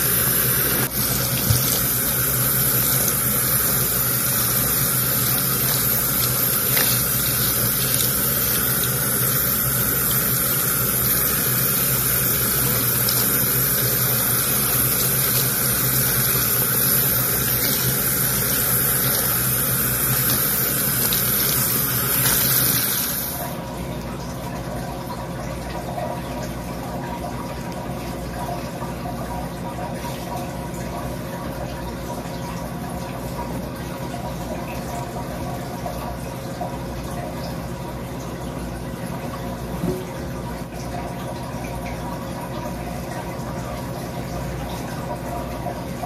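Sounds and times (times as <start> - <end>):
tap water running into sink: 0.0 - 46.0.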